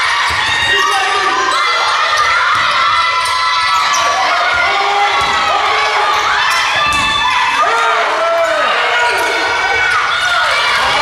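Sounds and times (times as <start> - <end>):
sneakers squeaking: 0.0 - 7.5, 8.4 - 11.0
players calling out: 0.0 - 11.0.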